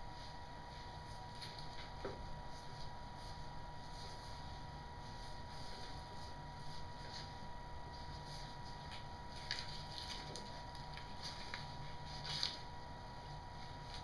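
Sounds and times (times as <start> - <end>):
faint steady hum: 0.0 - 14.0
rustling of vinyl cover: 1.1 - 12.7.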